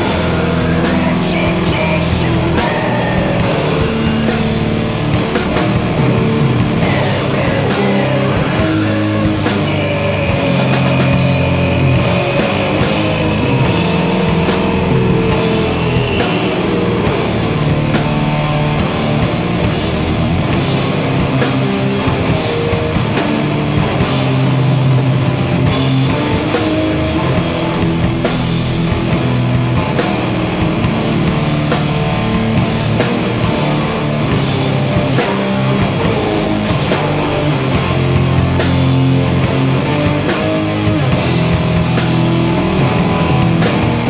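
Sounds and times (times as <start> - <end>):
drums striking a regular beat: 0.0 - 44.0
rock band playing live: 0.0 - 44.0.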